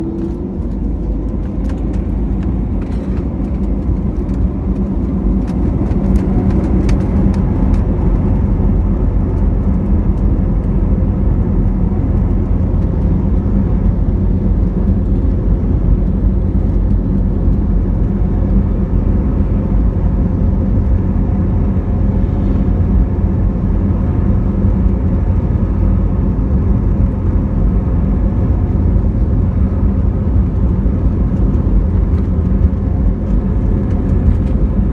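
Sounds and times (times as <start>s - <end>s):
jet engines rumbling at takeoff: 0.0s - 34.9s.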